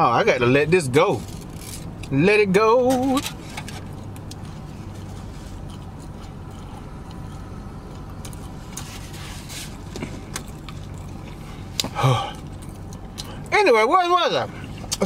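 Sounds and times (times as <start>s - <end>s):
low hum inside car cabin: 0.0s - 15.0s.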